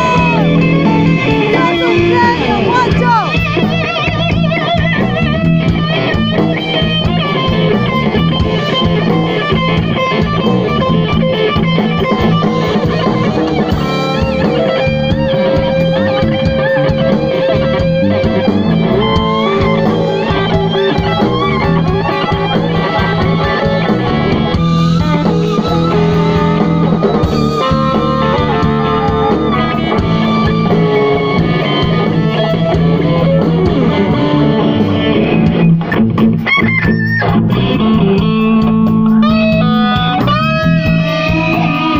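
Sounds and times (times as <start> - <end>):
electric guitar bent notes: 0.0 - 41.9
live blues band playing: 0.0 - 41.9.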